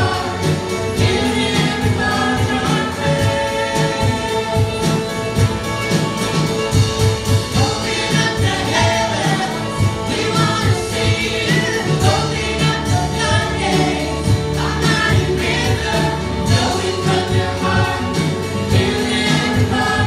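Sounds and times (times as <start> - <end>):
live worship band playing: 0.0 - 20.0
steady drum beat: 0.0 - 20.0.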